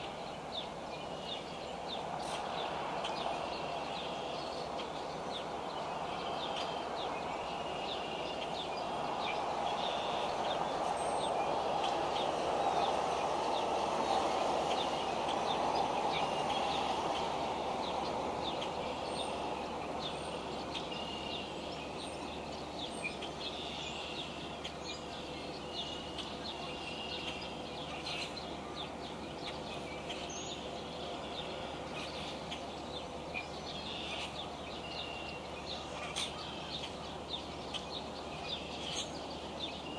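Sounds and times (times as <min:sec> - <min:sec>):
small birds chirping: 0:00.0 - 0:39.9
steady rushing noise: 0:00.0 - 0:39.9.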